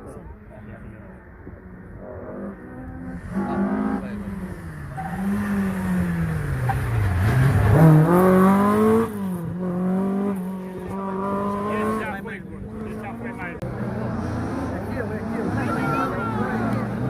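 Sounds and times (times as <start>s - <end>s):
rally car engine accelerating: 1.5s - 17.0s.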